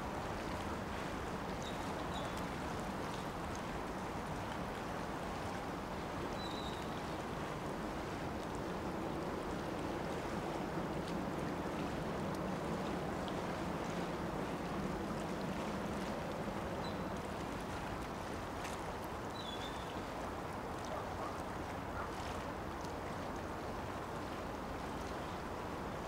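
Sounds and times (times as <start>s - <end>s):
water: 0.0s - 26.0s
wind: 0.0s - 26.0s.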